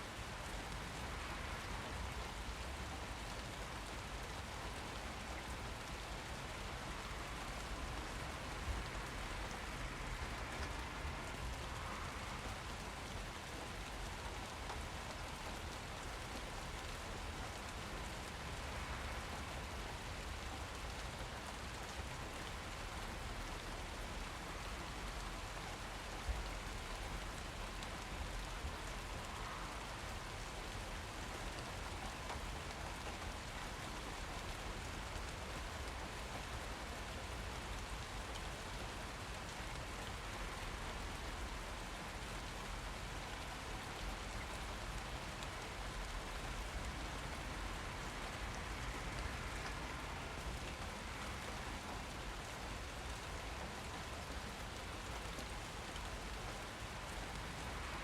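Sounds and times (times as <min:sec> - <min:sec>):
rain pattering on hard surfaces: 0:00.0 - 0:58.0.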